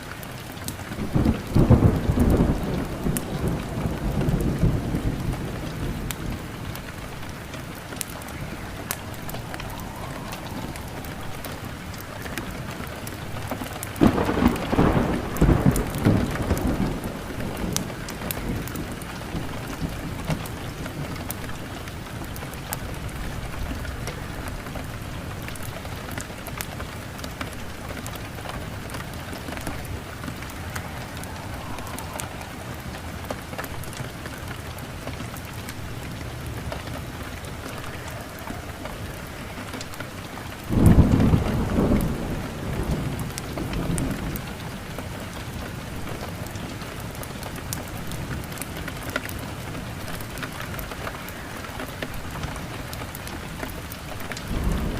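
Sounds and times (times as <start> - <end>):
steady rain falling: 0.0 - 54.9
thunder rolling: 0.1 - 54.9.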